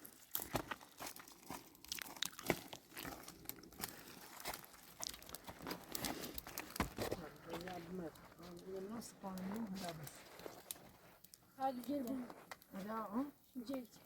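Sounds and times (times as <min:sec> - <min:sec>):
crunching and crackling: 0:00.0 - 0:14.0
sharp snaps and rustles: 0:00.0 - 0:14.0.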